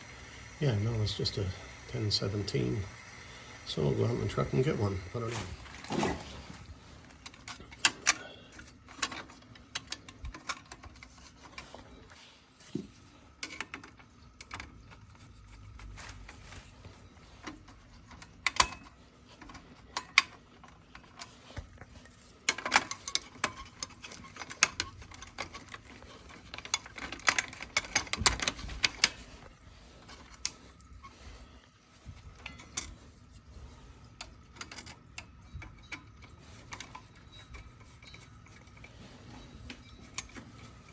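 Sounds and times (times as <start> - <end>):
faint steady hum: 0.0 - 40.9
hand tools clicking and clattering: 0.4 - 40.9.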